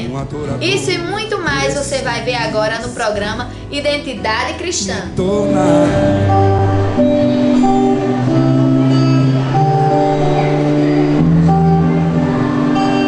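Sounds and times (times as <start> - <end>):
instrumental music with plucked guitar: 0.0 - 13.0.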